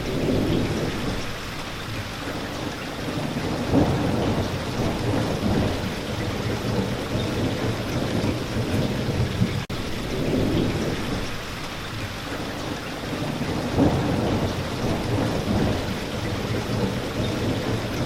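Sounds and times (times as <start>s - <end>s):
rolling thunder rumble: 0.0s - 1.6s, 2.4s - 18.0s
heavy rain: 0.0s - 18.0s.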